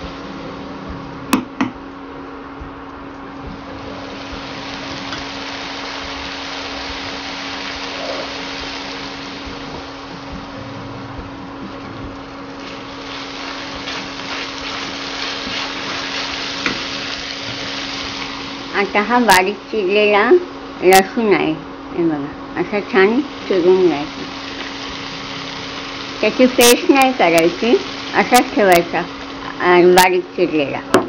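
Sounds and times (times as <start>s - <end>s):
vegetables sizzling in a pan: 0.0s - 1.3s, 3.4s - 30.9s
cooktop humming: 0.0s - 31.0s.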